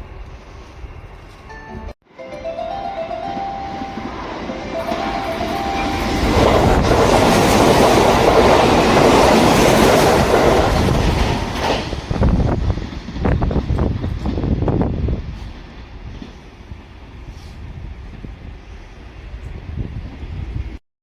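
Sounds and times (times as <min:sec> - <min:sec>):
train rumble and wheel clatter: 0:00.0 - 0:20.8.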